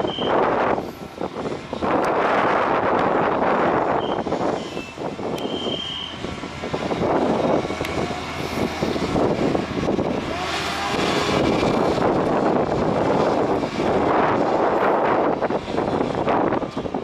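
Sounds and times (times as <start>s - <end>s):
distant engine rumble: 0.5s - 17.0s.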